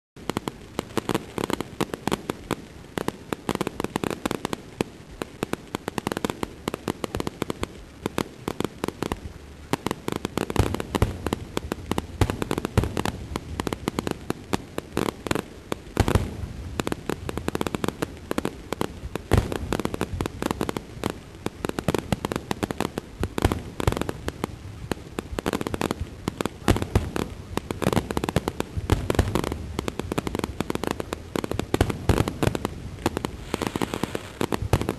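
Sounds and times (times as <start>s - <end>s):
deep fireworks booms: 0.2s - 34.9s
fireworks bangs and crackles: 0.2s - 34.9s.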